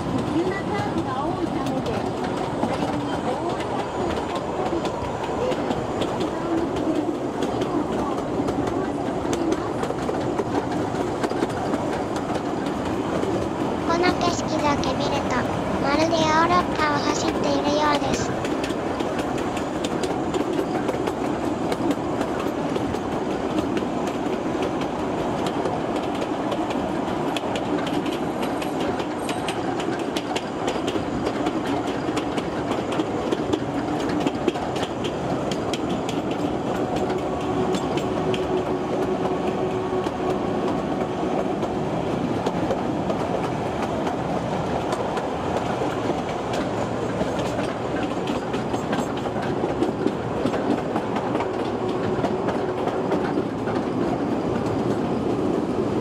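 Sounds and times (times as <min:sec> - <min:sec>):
clatter over rail joints: 0:00.0 - 0:55.5
train wheels rumbling on track: 0:00.0 - 0:56.0.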